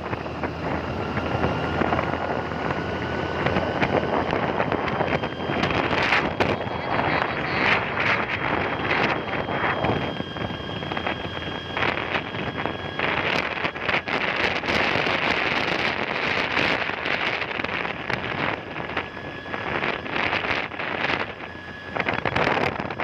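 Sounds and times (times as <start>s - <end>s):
motorbike engine and road noise: 0.0s - 23.0s
wind buffeting microphone: 0.0s - 23.0s.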